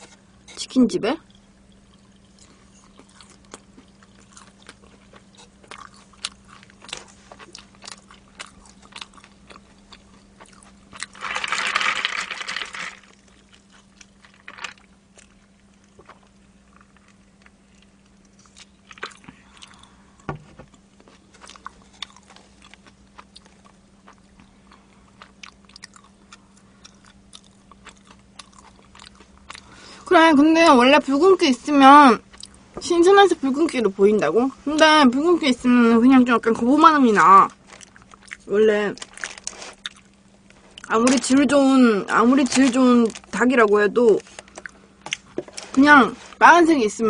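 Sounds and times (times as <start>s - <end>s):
chewing and crunching fried chicken: 0.0s - 30.1s, 31.5s - 32.6s, 36.3s - 46.4s
faint electrical hum: 0.0s - 47.0s.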